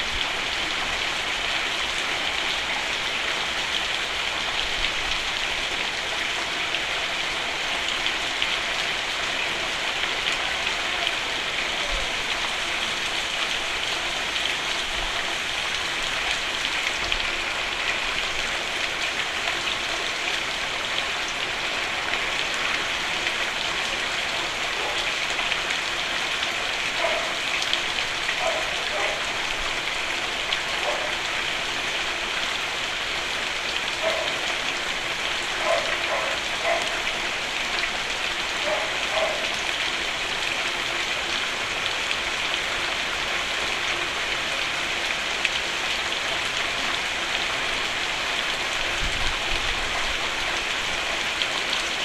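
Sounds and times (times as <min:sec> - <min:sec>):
rain pattering on a roof: 0:00.0 - 0:52.0.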